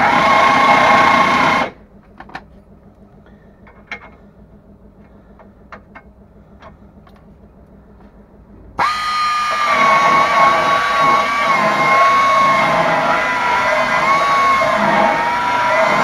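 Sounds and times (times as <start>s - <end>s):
high-pitched motor whine: 0.0s - 5.4s, 8.5s - 16.0s.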